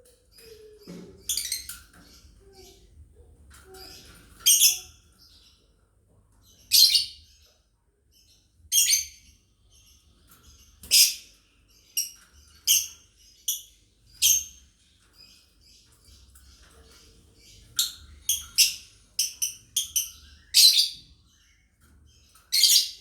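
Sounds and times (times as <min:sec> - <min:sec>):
lovebirds chirping: 0:00.0 - 0:23.0.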